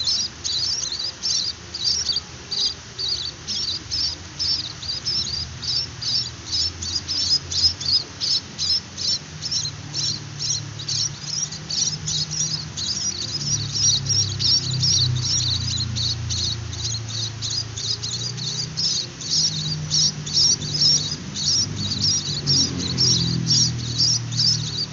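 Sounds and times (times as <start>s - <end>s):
chicks high begging calls: 0.0s - 24.9s
low steady hum: 0.0s - 24.9s.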